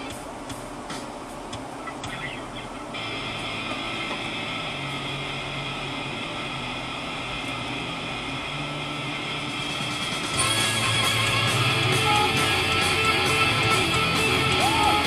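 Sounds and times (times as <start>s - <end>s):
car cabin hum and hiss: 0.0s - 15.0s
engine idling: 1.8s - 15.0s.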